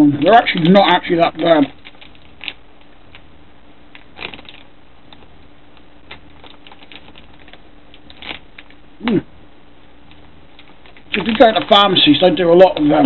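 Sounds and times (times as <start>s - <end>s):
plastic packet crinkling: 0.2s - 3.3s, 3.9s - 5.3s, 6.0s - 9.2s, 9.8s - 13.0s.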